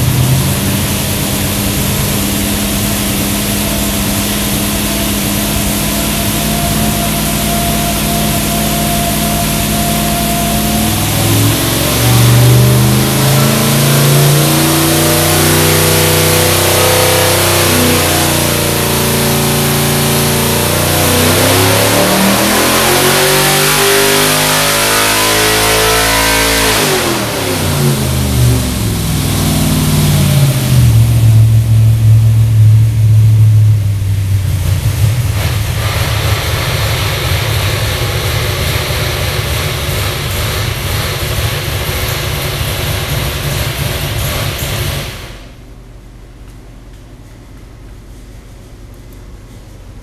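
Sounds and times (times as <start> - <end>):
car engine revving on dyno: 0.0 - 45.6
engine idling: 0.0 - 50.0.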